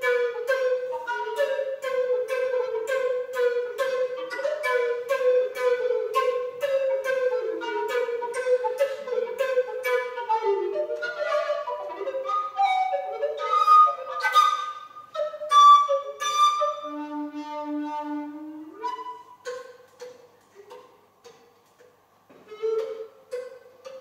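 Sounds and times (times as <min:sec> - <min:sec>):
recorder melody: 0:00.0 - 0:20.8.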